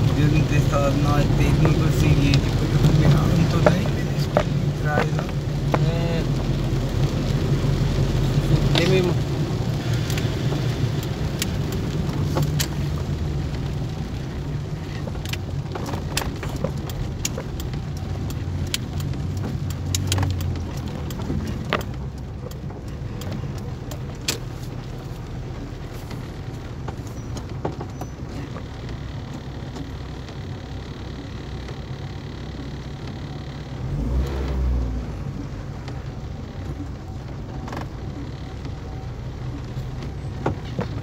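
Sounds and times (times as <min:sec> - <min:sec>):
sharp clicks and ticks: 0:00.0 - 0:34.8
car engine and road rumble: 0:00.0 - 0:41.0.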